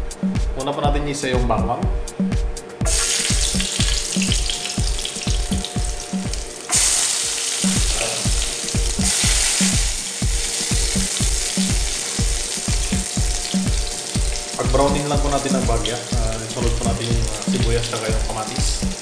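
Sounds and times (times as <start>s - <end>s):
background music with steady beat: 0.0s - 19.0s
garlic sizzling in hot oil: 2.9s - 19.0s.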